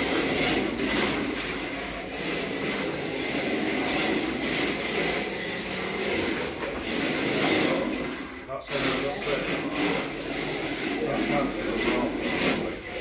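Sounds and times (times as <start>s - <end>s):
electric rc car motor whining: 0.0s - 13.0s
tyres sliding: 0.0s - 13.0s.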